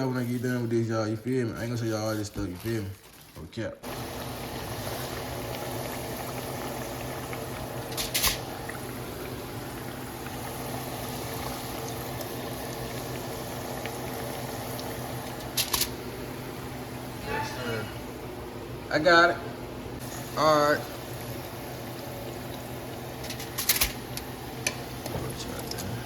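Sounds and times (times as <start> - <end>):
food bubbling and boiling: 0.0 - 18.9, 19.6 - 26.0.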